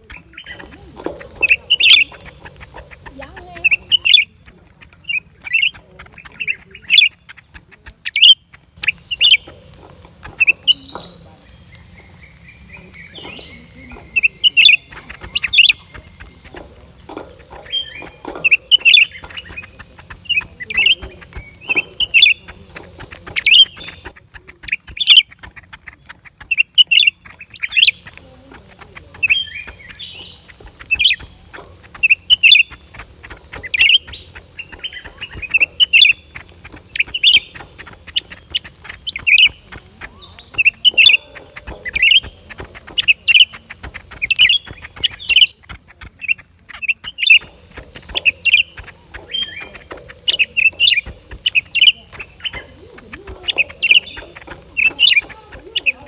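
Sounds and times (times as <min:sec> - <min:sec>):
bird chirping calls: 0:00.0 - 0:56.0.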